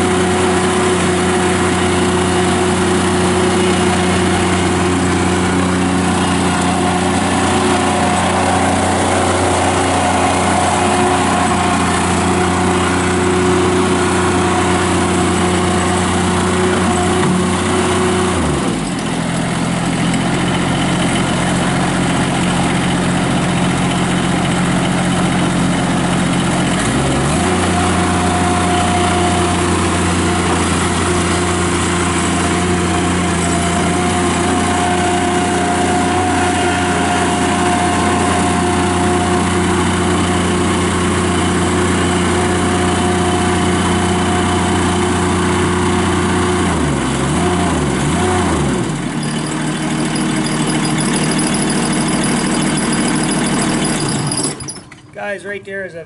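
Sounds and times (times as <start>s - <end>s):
skid steer engine running: 0.0s - 56.0s.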